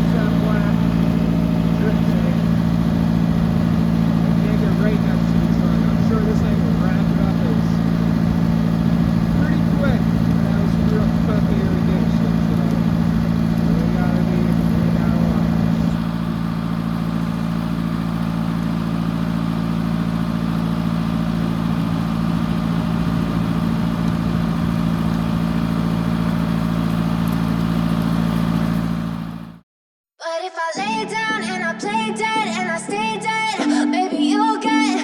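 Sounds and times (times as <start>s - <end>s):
tractor engine running: 0.0s - 29.6s.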